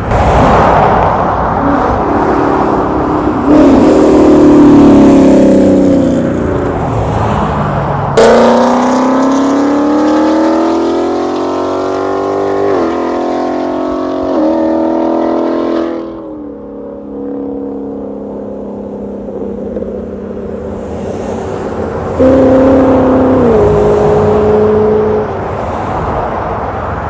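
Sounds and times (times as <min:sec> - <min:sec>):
car engine accelerating hard: 0:01.6 - 0:26.2.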